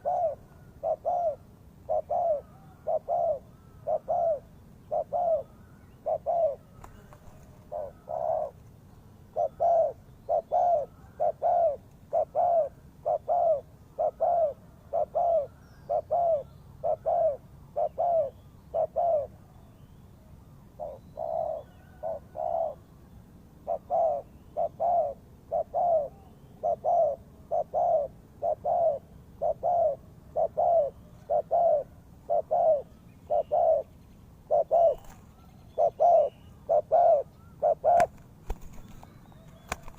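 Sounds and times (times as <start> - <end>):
dove cooing: 0.0 - 8.7, 9.3 - 19.5, 20.7 - 22.8, 23.6 - 39.9.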